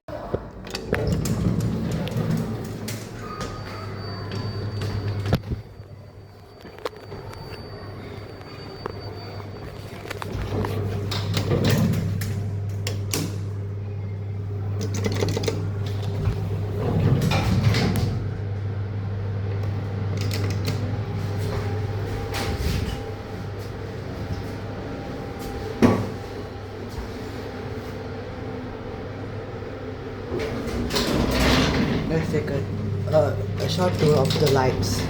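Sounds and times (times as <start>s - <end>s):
elevator hum: 0.1s - 35.0s.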